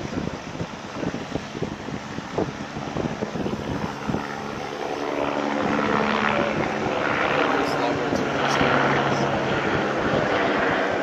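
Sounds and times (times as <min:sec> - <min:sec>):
helicopter turbine hum and whine: 0:00.0 - 0:11.0
helicopter rotor thumping: 0:01.0 - 0:11.0.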